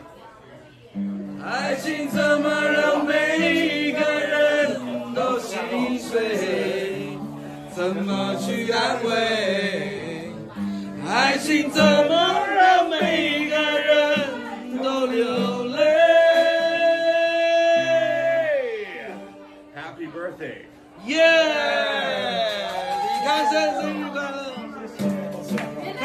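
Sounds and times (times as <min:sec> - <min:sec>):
acoustic guitar strumming: 0:00.9 - 0:26.0.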